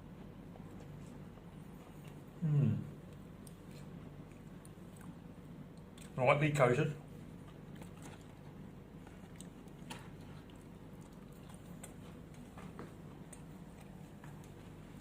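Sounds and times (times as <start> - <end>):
faint chewing: 0.0 - 6.2, 7.0 - 15.0
low steady hum: 0.0 - 15.0.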